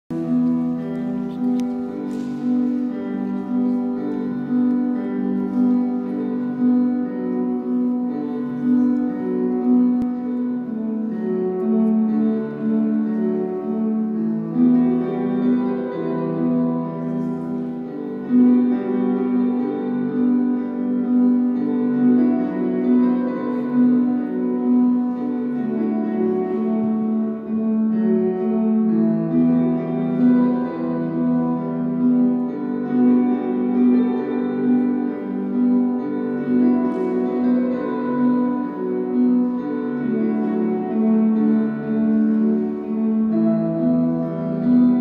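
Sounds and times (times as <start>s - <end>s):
electronic keyboard melody: 0.1s - 45.0s.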